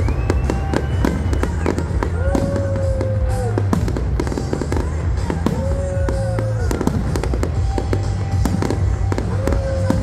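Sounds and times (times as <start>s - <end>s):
fireworks bursting: 0.0s - 10.0s
fireworks crackling: 0.0s - 10.0s
music: 0.0s - 10.0s.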